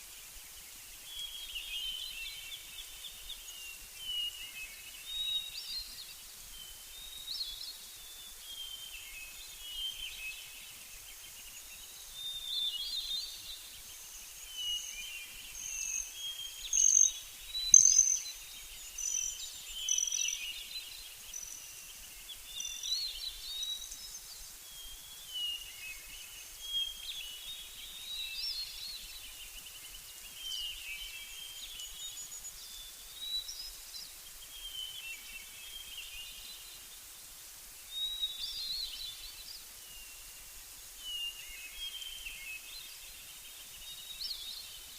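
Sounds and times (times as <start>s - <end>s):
songbirds singing and chirping: 0.0s - 44.9s.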